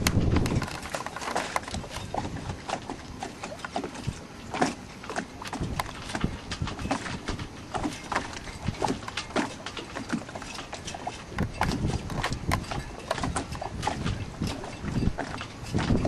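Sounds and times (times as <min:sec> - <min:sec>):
small waves lapping against boat hull: 0:00.0 - 0:16.0.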